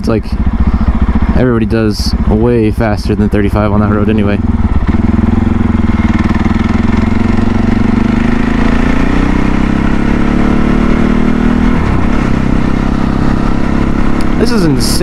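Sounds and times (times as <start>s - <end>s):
motorcycle engine under throttle: 0.0s - 15.0s.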